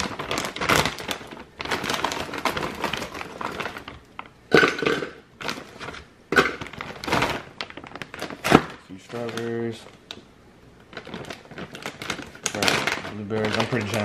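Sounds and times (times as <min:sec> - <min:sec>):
ingredients rustling: 0:00.0 - 0:14.0.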